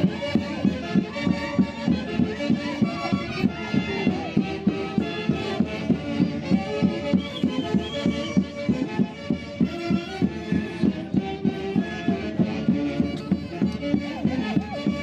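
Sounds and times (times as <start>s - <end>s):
ornamented folk melody: 0.0s - 15.0s.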